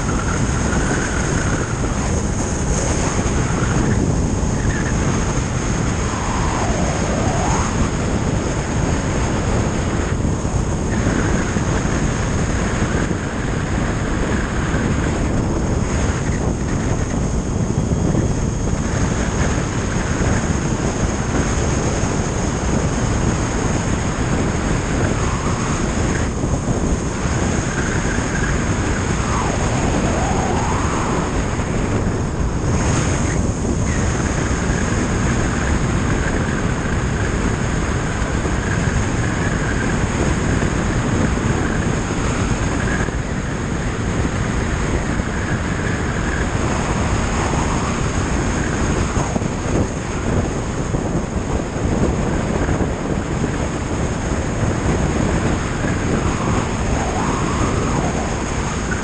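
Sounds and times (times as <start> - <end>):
tyre noise on road: 0.0 - 59.0
wind rushing over microphone: 0.0 - 59.0.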